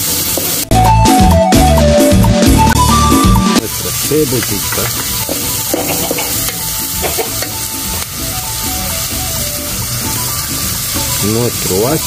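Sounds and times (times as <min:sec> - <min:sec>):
vegetables sizzling in hot oil: 0:00.0 - 0:00.9, 0:02.6 - 0:12.0.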